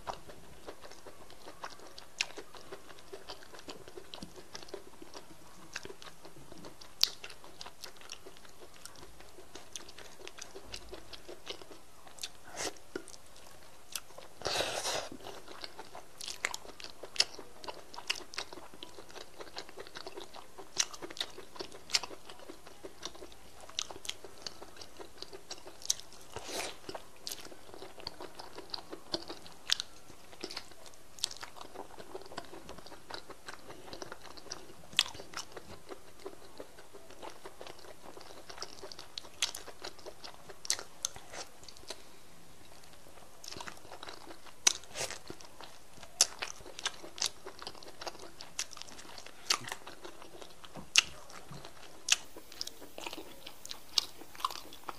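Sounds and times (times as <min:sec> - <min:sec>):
biting chewing and crunching: 0:00.0 - 0:54.9.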